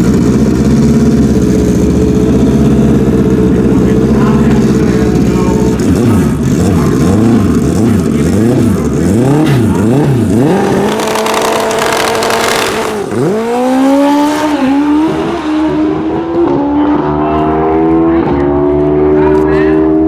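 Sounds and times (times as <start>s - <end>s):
drag motorcycle engine revving: 0.0s - 20.0s.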